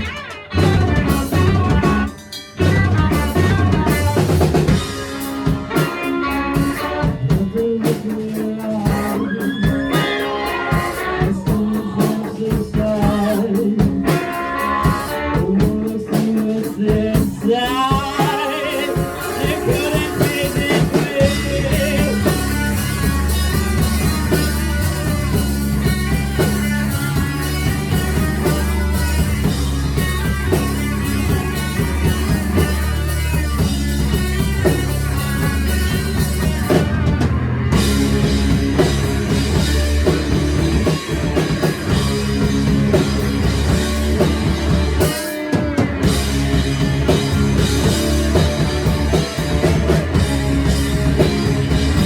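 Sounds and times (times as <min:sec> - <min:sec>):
bass guitar: 0:00.0 - 0:52.0
drum kit: 0:00.0 - 0:52.0
electric guitar: 0:00.0 - 0:52.0.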